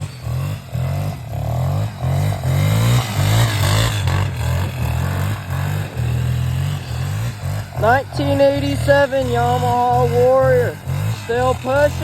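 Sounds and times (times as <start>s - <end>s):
engine revving in blips: 0.0s - 12.0s.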